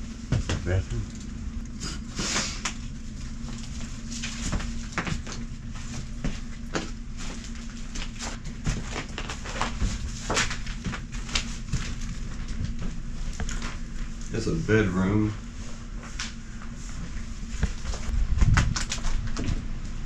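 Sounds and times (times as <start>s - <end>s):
steady low rumble: 0.0s - 20.0s
footsteps knocking and crunching: 0.2s - 0.9s, 2.7s - 14.3s, 15.8s - 20.0s.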